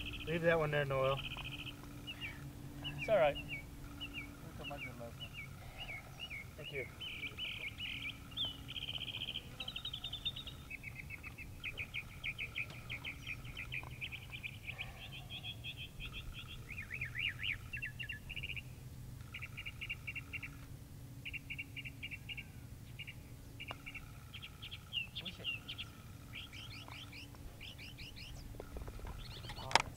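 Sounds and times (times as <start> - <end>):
songbirds chirping and trilling: 0.0 - 29.9.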